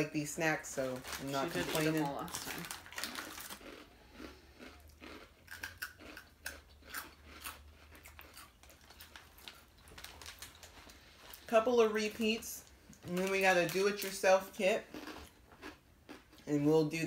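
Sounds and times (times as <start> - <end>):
crunching crisp crackers: 0.8 - 16.5.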